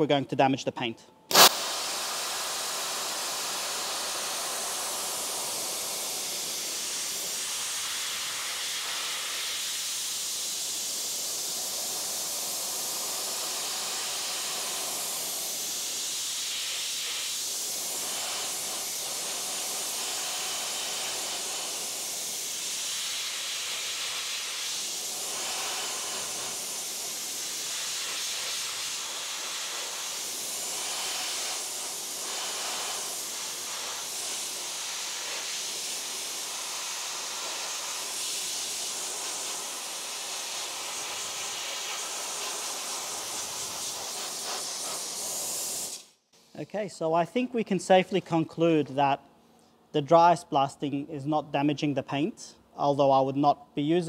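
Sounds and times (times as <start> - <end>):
dry ice blaster hissing: 1.3 - 46.6.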